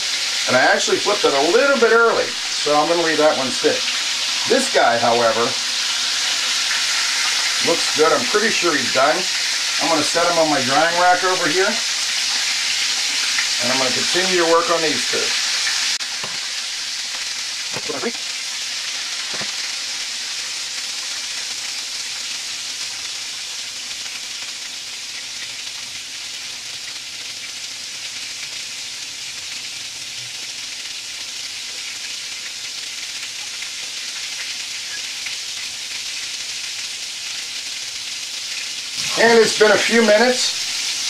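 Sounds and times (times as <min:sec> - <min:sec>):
meat sizzling in hot oil: 0:00.0 - 0:41.0.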